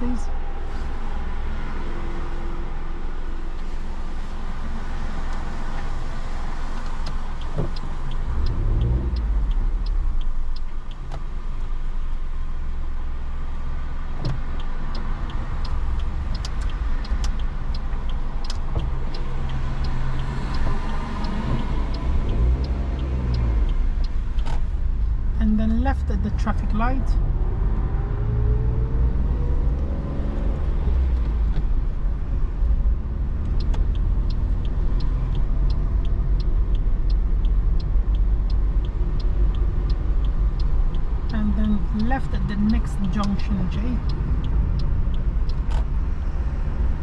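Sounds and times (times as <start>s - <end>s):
car engine and road rumble: 0.0s - 47.0s
light ticks of rain: 0.0s - 47.0s.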